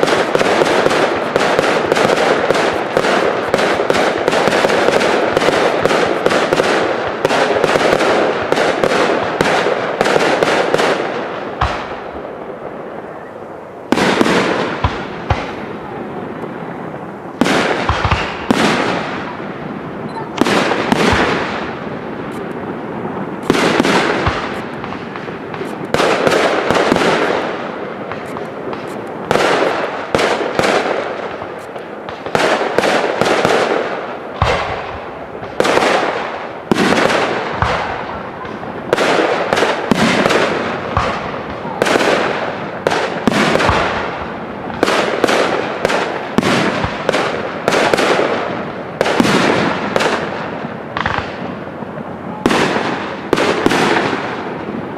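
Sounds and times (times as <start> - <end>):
fireworks bangs echoing: 0.0 - 54.9.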